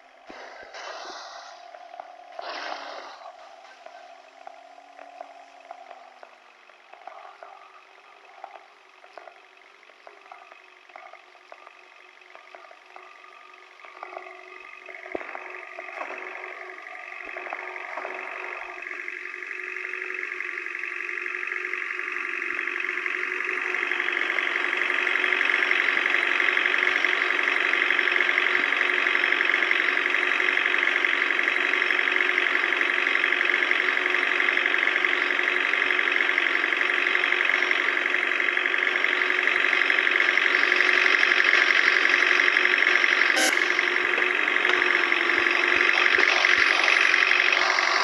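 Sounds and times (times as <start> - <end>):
vehicle engine running hard: 0.0 - 48.0.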